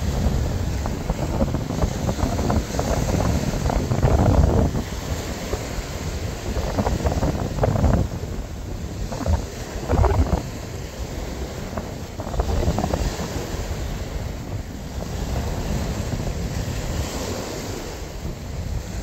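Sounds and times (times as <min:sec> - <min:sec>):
waves washing on shore: 0:00.0 - 0:19.0
wind buffeting microphone: 0:00.0 - 0:19.0.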